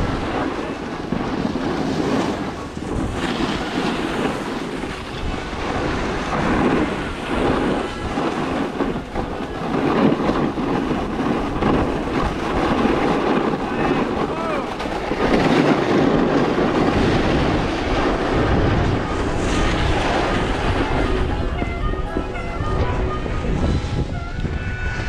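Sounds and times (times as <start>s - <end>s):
snowboard sliding over snow: 0.0s - 25.0s
wind buffeting microphone: 0.0s - 25.0s.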